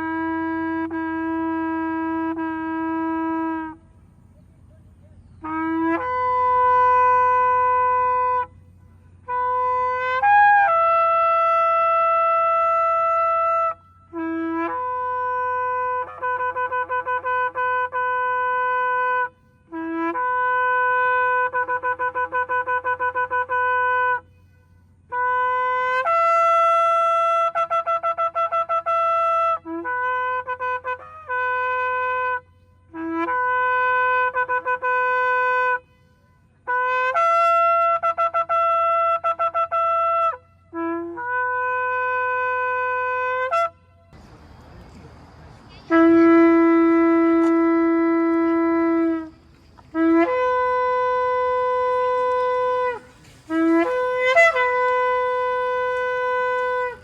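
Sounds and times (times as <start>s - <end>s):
background hiss: 0.0s - 57.0s
ram's horn blasts: 0.0s - 57.0s.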